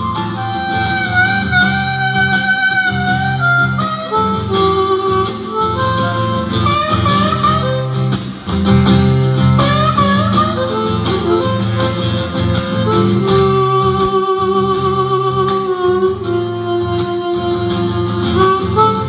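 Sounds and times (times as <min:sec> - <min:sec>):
harmonica melody: 0:00.0 - 0:19.0
strummed acoustic guitar: 0:00.0 - 0:19.0.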